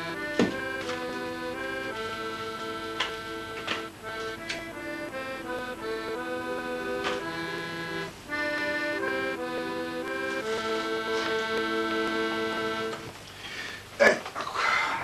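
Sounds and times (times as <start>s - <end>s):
accordion melody over chords: 0.0s - 13.3s.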